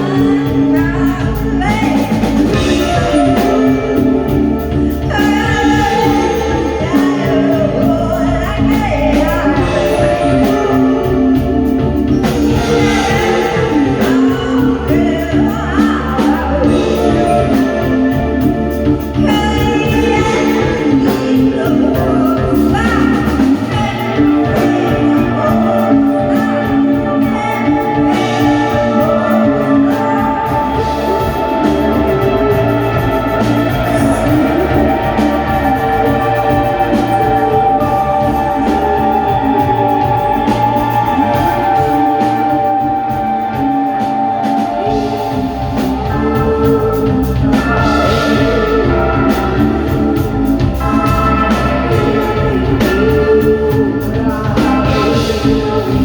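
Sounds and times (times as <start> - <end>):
live band playing: 0.0 - 56.0
person singing: 0.0 - 56.0.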